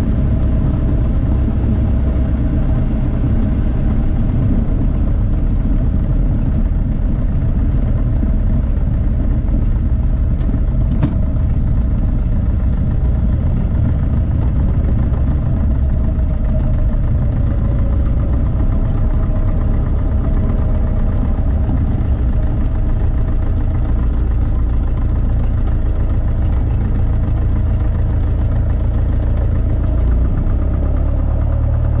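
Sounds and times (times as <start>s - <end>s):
propeller plane engine running: 0.0s - 32.0s.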